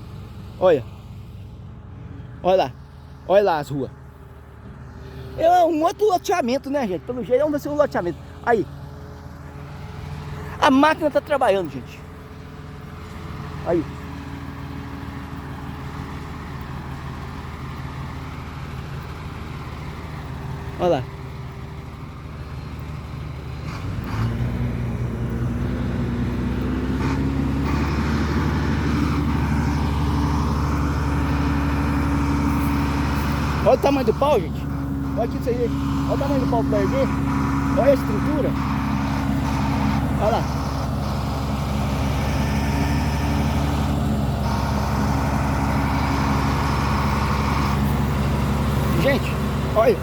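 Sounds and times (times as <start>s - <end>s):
heavy machine engine revving: 0.0s - 50.0s.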